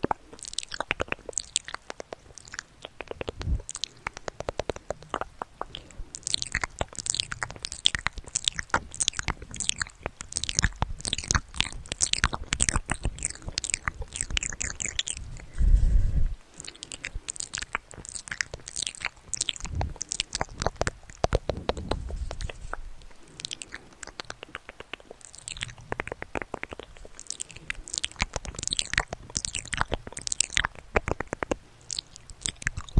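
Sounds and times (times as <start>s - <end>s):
rapid crackling and clicking: 0.0s - 32.9s.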